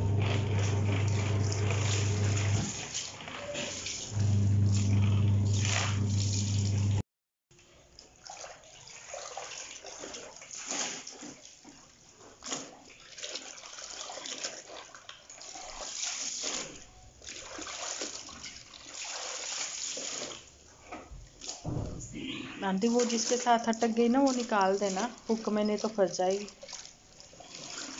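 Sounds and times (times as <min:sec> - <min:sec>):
hose running water: 0:00.0 - 0:07.0, 0:07.6 - 0:21.8, 0:22.6 - 0:27.9
water splashing in a tub: 0:00.0 - 0:07.0, 0:07.6 - 0:27.9.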